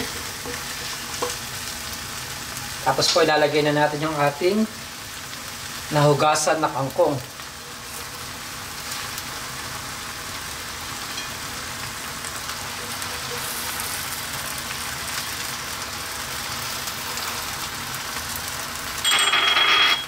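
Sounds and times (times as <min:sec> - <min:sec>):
sauce sizzling in a frying pan: 0:00.0 - 0:19.1.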